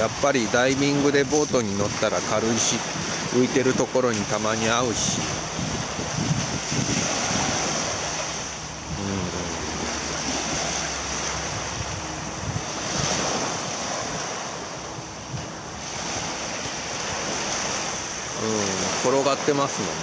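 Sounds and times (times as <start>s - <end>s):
wind buffeting microphone: 0.0s - 18.4s
small waves washing on shore: 0.0s - 20.0s.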